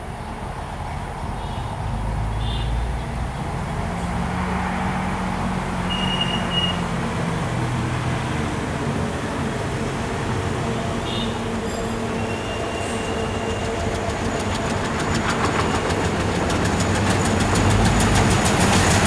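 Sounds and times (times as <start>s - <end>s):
diesel locomotive running under load: 0.0s - 19.0s.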